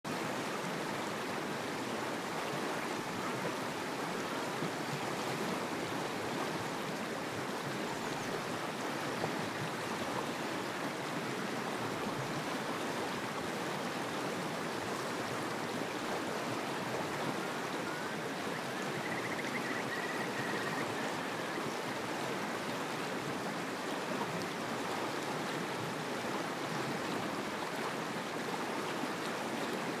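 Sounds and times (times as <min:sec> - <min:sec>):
rippling water rushing: 0:00.1 - 0:30.0.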